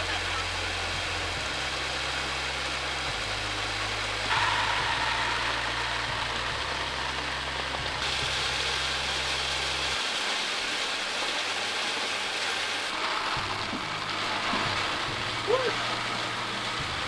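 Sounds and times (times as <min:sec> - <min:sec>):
low mechanical hum: 0:00.0 - 0:10.1, 0:12.9 - 0:17.0
rushing hiss: 0:00.0 - 0:17.0.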